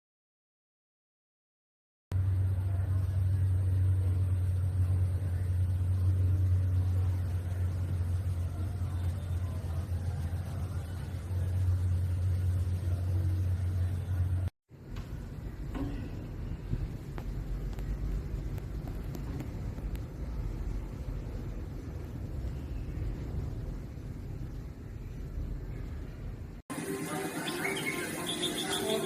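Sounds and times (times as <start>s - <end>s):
loud deep rumble: 2.1s - 26.6s.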